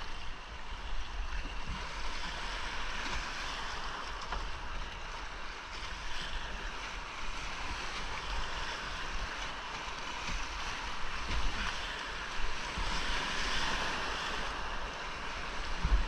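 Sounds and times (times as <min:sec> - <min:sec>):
rushing whitewater: 0:00.0 - 0:16.0.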